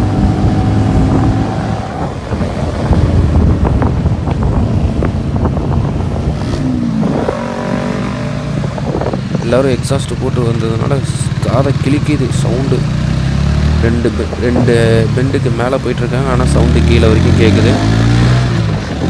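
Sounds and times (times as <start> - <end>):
loud motorcycle engines: 0.0 - 19.0
wind buffeting microphone: 0.0 - 19.0.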